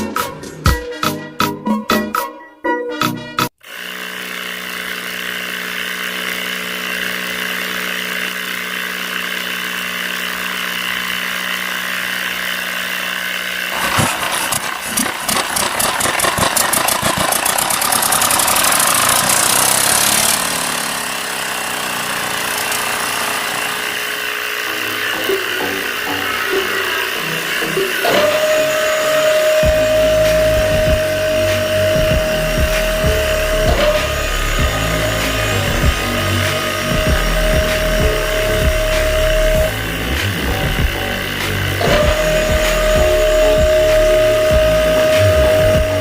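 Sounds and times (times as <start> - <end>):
small electric motor humming: 3.6 - 46.0
rattling grind with ticking: 4.2 - 46.0.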